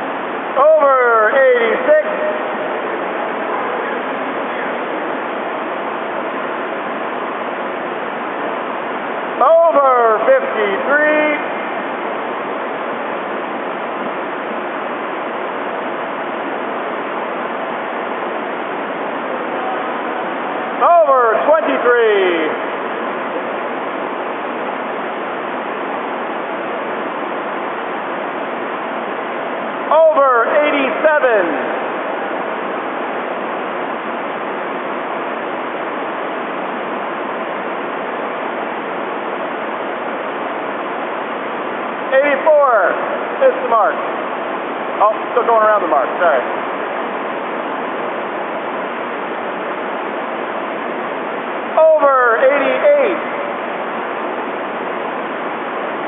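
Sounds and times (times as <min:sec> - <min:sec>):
large fans rushing: 0:00.0 - 0:56.0.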